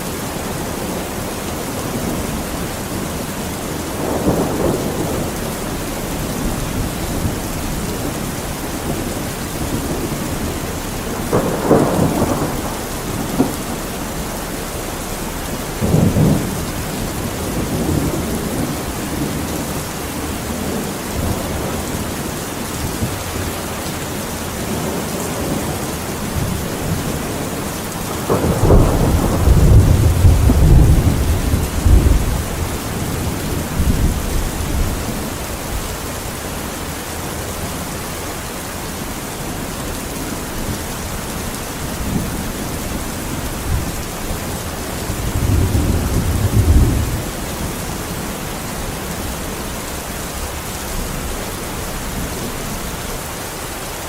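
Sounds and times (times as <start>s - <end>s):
steady rain: 0.0s - 54.0s
thunder rumbling: 0.4s - 36.7s, 39.2s - 53.0s.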